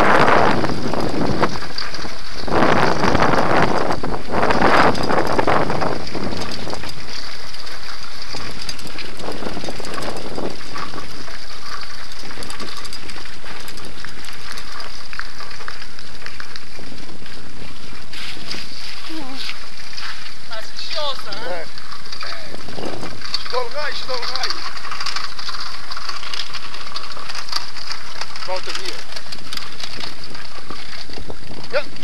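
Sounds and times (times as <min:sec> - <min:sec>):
handbike rattling over cobblestones: 0:00.0 - 0:32.0
wind buffeting microphone: 0:00.0 - 0:32.0.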